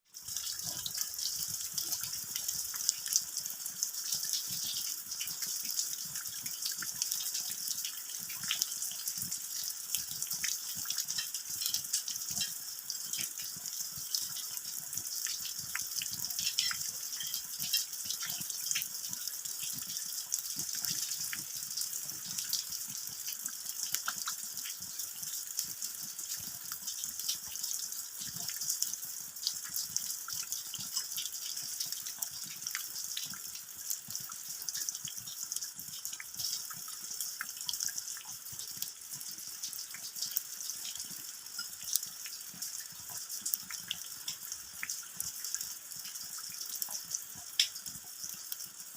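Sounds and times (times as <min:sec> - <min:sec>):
rain falling on ground: 0:00.1 - 0:48.9.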